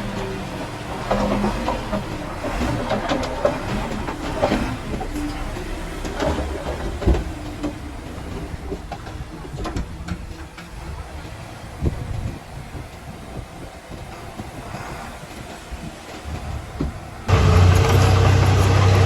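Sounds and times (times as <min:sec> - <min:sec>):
bulldozer diesel engine rumbling: 0:00.0 - 0:19.0
metallic clanks from tracks: 0:00.0 - 0:19.0.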